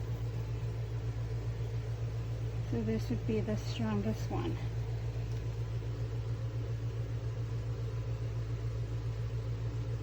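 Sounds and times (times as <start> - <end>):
small fan humming and whirring: 0.0 - 10.0.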